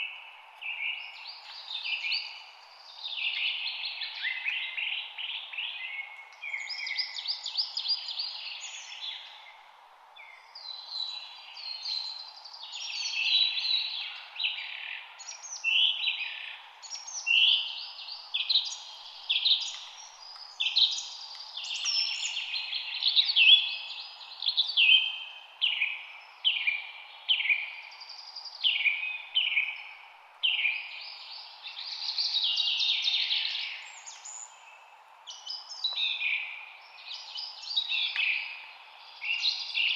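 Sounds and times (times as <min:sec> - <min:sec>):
faint steady background noise: 0:00.0 - 0:39.9
songbirds chirping: 0:00.0 - 0:39.9.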